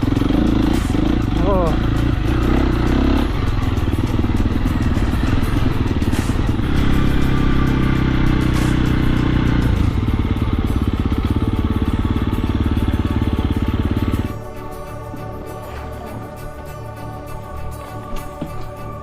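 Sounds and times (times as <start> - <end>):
dirt bike engine running: 0.0 - 16.5.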